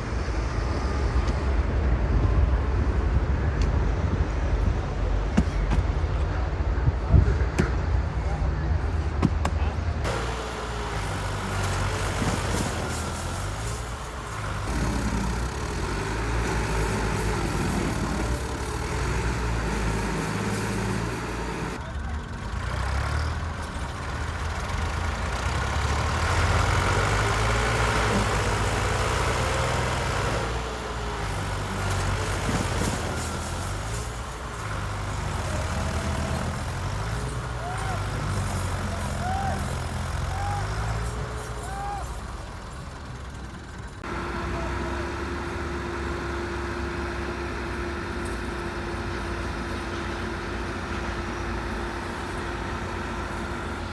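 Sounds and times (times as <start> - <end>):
heavy engine running: 0.0 - 53.9.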